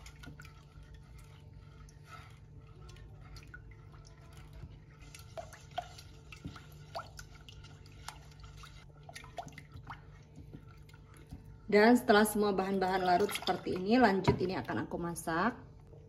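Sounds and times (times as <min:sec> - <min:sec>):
liquid sloshing in saucepan: 0:00.0 - 0:15.0.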